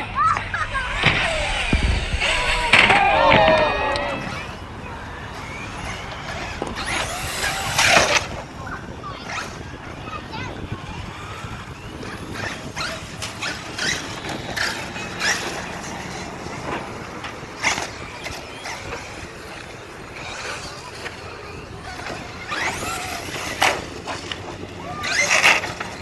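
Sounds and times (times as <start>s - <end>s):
radio-controlled truck whine: 0.0s - 10.2s, 10.8s - 26.0s.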